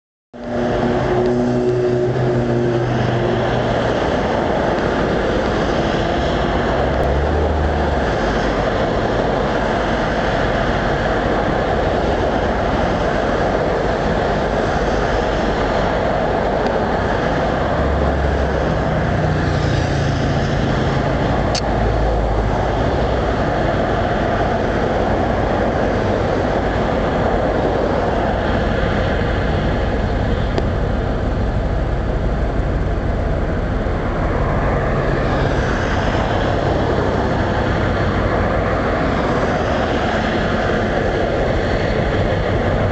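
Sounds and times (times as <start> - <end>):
heavy vehicle engine hum: 0.4 - 42.9
rush of passing vehicles: 0.4 - 42.9.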